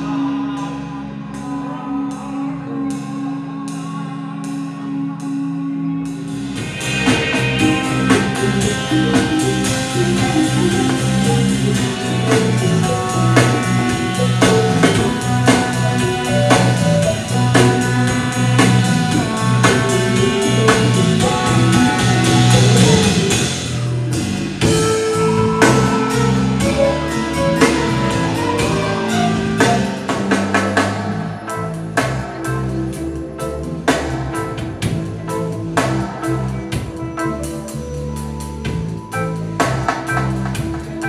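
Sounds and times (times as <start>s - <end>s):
bass guitar: 0.0s - 41.0s
drums: 0.0s - 41.0s
electric guitar: 0.0s - 41.0s.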